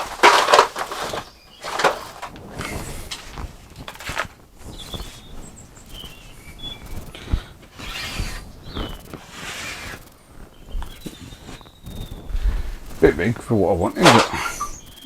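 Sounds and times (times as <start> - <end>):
rustling and handling noises: 0.0 - 15.0
small birds chirping: 0.8 - 15.0.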